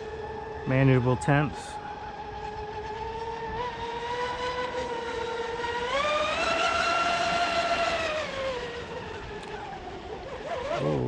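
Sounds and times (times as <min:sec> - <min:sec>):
boat motor high whine: 0:00.0 - 0:11.0.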